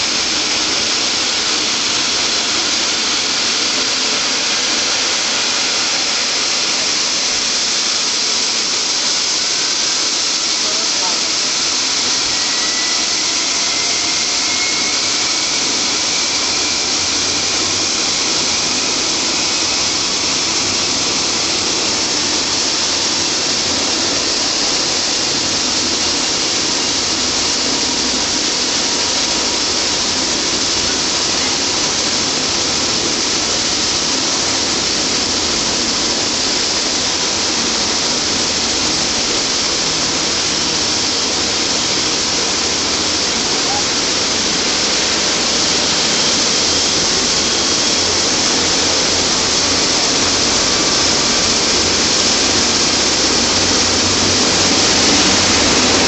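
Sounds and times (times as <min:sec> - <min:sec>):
faint rising whine: 0:00.0 - 0:56.0
helicopter turbine and rotor hiss: 0:00.0 - 0:56.0.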